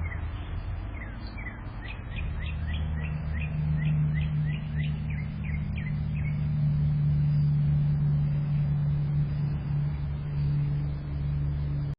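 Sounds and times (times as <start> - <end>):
bird chirping: 0.0 - 10.9
low motor hum: 0.0 - 11.9.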